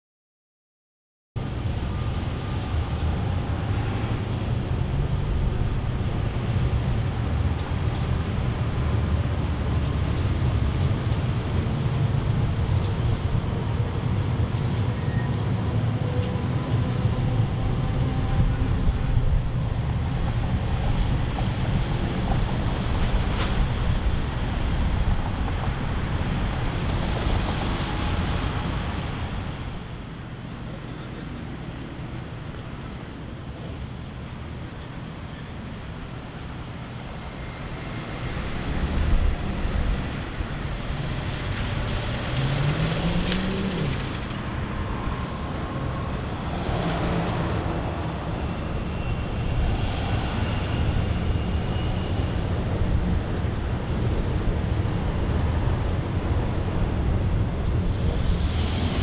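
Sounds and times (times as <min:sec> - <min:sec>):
city street traffic: 0:01.4 - 0:59.0.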